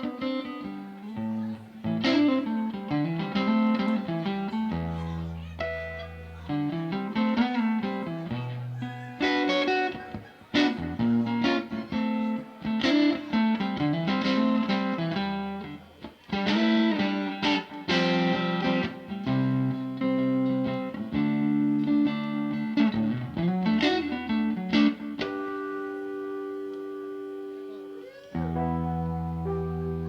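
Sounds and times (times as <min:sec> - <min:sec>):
bass guitar: 0:00.0 - 0:30.0
picked guitar notes: 0:00.0 - 0:30.0.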